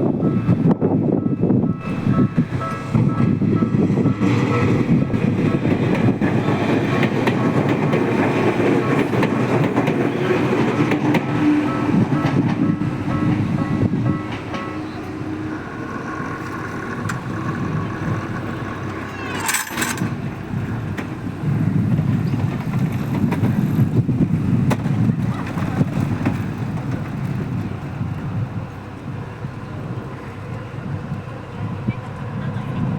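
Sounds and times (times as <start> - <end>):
train running rumble: 0.0 - 32.9.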